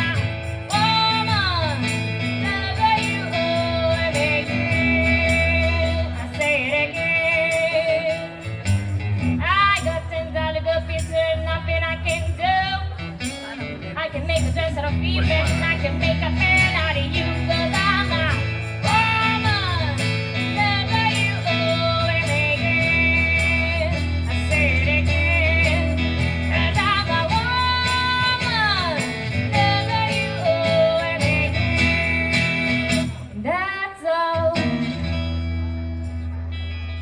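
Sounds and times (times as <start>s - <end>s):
woman singing: 0.0s - 8.4s, 9.3s - 35.1s
acoustic guitar: 0.0s - 37.0s.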